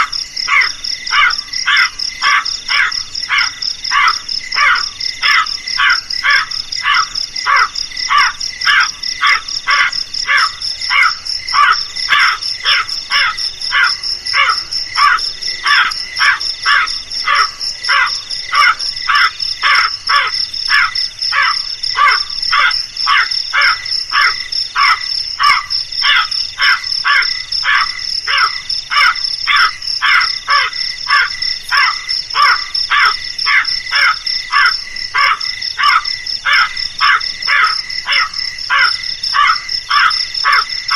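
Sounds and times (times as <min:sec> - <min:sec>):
crow cawing: 0:00.0 - 0:40.7
high insect trill: 0:00.0 - 0:40.9.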